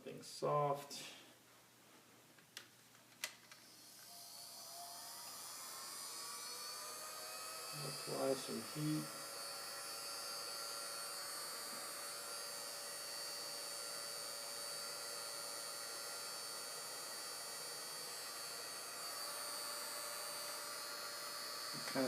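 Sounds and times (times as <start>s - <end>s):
heat gun fan whining: 3.2s - 22.0s.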